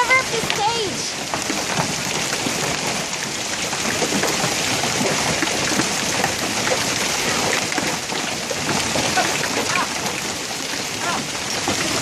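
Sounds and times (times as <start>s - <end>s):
hailstones clattering: 0.0s - 12.0s.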